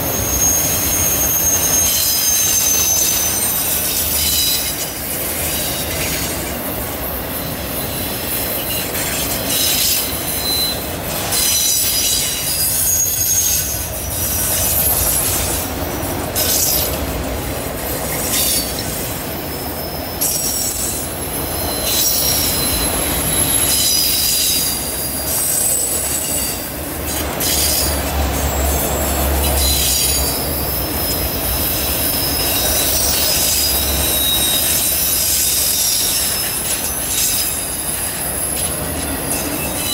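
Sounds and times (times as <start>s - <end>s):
train rolling rumble: 0.0s - 39.9s
train wheels squealing: 0.0s - 39.9s.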